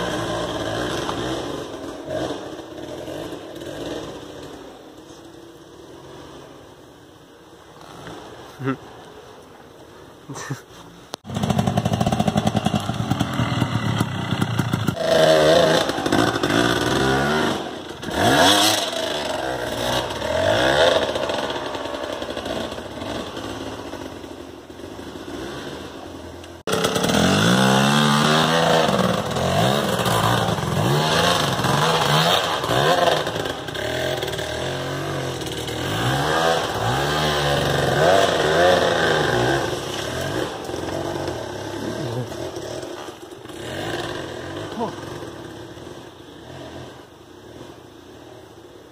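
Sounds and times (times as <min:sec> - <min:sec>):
two-stroke engine revving: 0:00.0 - 0:05.0, 0:11.2 - 0:47.7.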